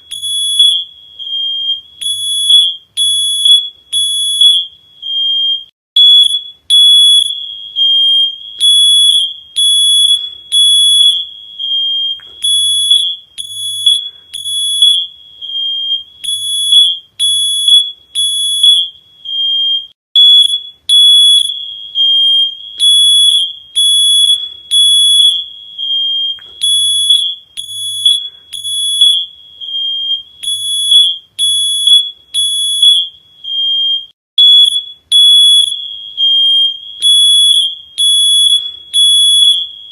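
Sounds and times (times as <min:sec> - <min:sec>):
smoke alarm beeping: 0:00.0 - 0:39.9.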